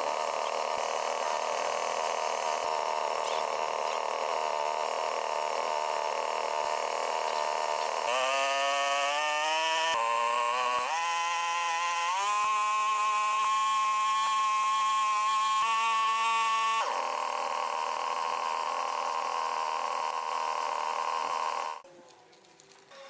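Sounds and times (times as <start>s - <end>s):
motor running high pitch: 0.0s - 21.8s
rough rasping noise: 0.0s - 21.8s.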